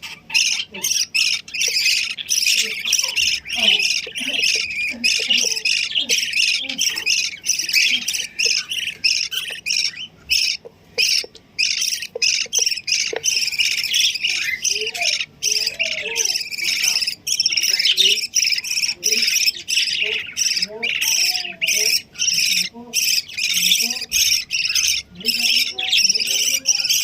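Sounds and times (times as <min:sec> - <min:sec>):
pet birds chirping and squawking: 0:00.0 - 0:27.0.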